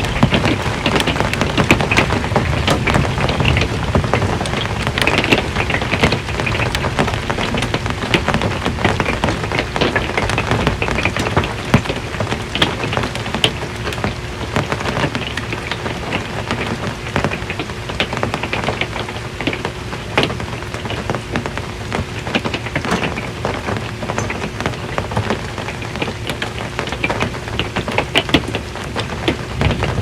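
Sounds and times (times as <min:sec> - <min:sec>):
rain on a metal roof: 0:00.0 - 0:30.0.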